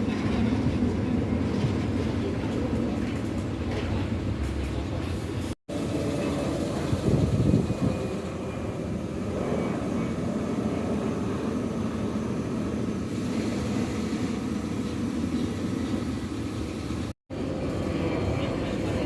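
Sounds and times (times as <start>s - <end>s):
airliner engines rumbling: 0.0s - 19.0s.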